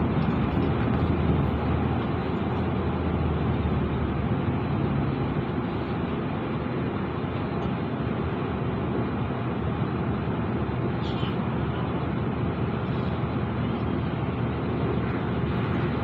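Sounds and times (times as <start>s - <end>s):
bus engine and road drone: 0.0s - 16.0s.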